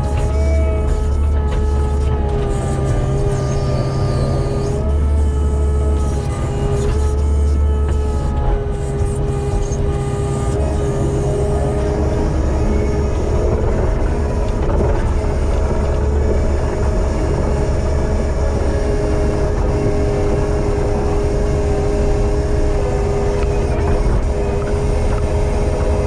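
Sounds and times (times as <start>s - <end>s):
diesel engine running: 0.0s - 26.0s
engine whine: 0.0s - 26.0s.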